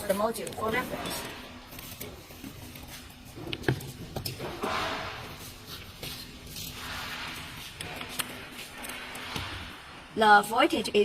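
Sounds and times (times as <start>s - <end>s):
rustling and scraping: 0.0s - 10.0s.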